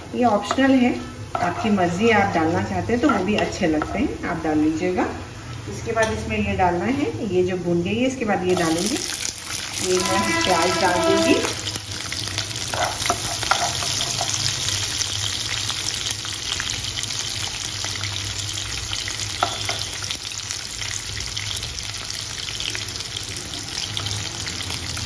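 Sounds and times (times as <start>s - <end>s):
onions sizzling in hot oil: 0.0s - 6.0s, 6.8s - 25.0s.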